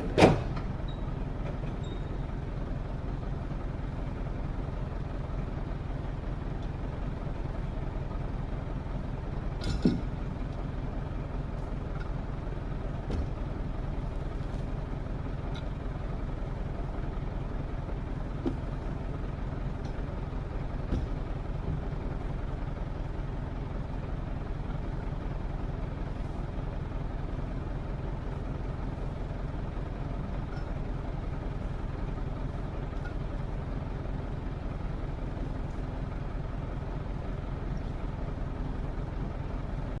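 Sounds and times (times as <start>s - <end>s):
heavy engine low rumble: 0.0s - 40.0s.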